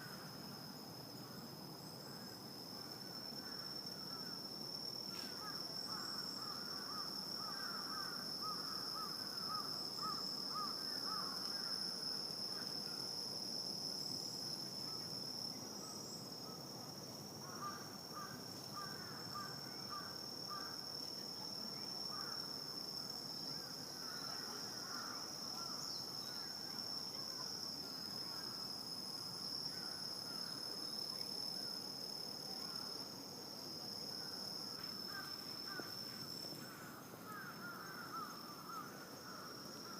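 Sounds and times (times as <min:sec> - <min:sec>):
crickets droning: 0:00.0 - 0:39.9
rapid insect chirping: 0:00.0 - 0:39.9.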